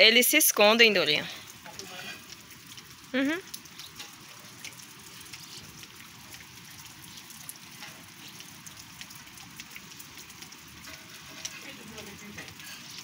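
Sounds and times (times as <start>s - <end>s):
raindrops ticking: 0.0s - 13.0s
steady rain: 0.0s - 13.0s.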